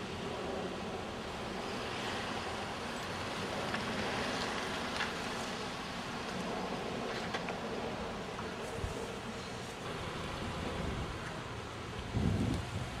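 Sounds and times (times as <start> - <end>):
distant traffic hiss: 0.0 - 13.0
wind: 0.0 - 13.0.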